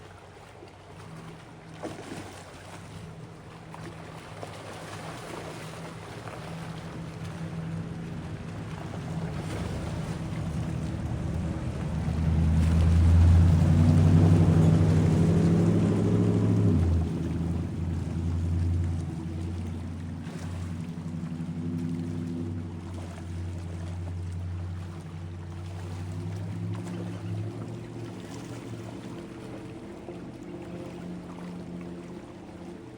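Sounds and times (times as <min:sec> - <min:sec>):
motorboat engine drone: 0:00.0 - 0:32.9.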